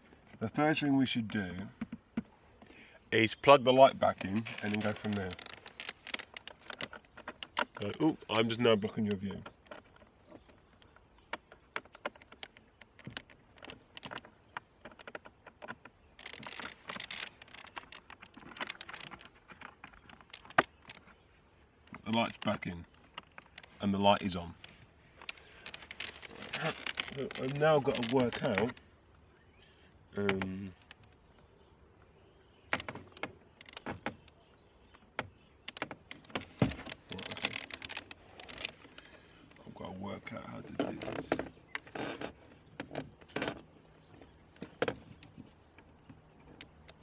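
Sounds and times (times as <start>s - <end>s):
rustling: 3.8s - 47.0s.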